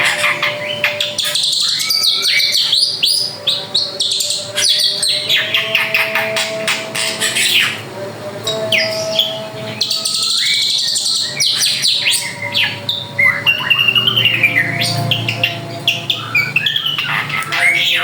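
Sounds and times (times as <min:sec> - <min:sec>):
bird singing whistles and chatter: 0:00.0 - 0:07.8, 0:08.8 - 0:18.0.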